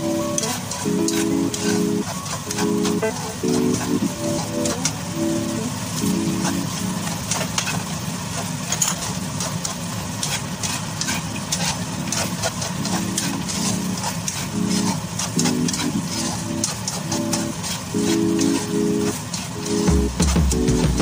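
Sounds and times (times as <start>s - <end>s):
spatula scraping and knocking wok: 0.0s - 4.9s, 5.8s - 21.0s
steady low hum: 0.0s - 8.3s, 10.9s - 21.0s.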